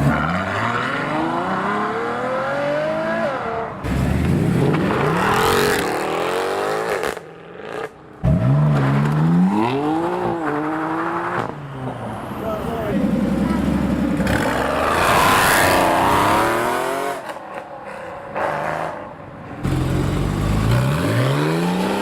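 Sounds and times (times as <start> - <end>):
car engines accelerating hard: 0.0 - 17.7, 19.6 - 22.0.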